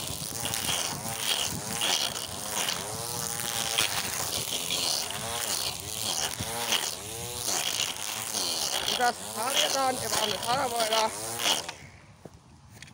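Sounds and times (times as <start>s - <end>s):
string trimmer motor whining: 0.0s - 12.0s.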